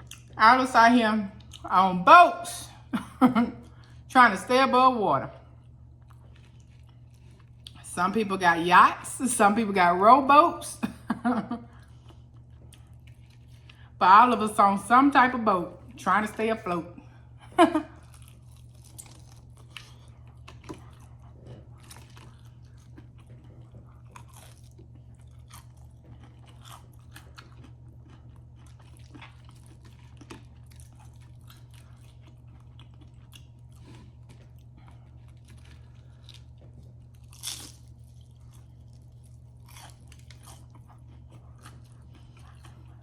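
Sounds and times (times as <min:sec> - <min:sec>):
chewing crispy food: 0:00.0 - 0:00.4, 0:01.3 - 0:01.7, 0:02.7 - 0:04.1, 0:05.4 - 0:07.9, 0:10.8 - 0:14.0, 0:15.8 - 0:43.0
low steady hum: 0:00.0 - 0:43.0.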